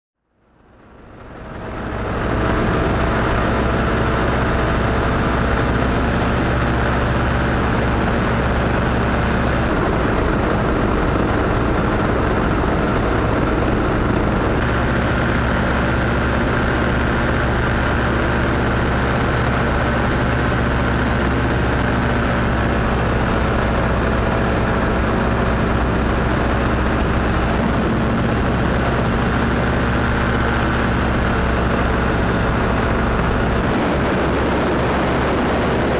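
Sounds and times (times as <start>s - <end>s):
small aircraft engine droning: 0.3s - 35.9s
rush of air: 1.4s - 35.9s.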